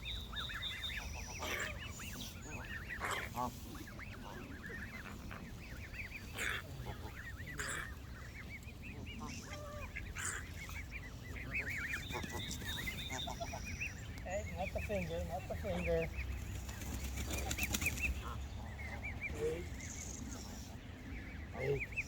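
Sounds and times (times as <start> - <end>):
geese calling: 0.0 - 22.0.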